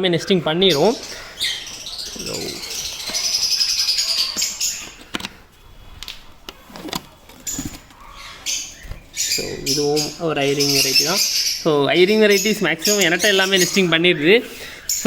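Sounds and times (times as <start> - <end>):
parrots chattering and screeching: 0.1 - 15.0.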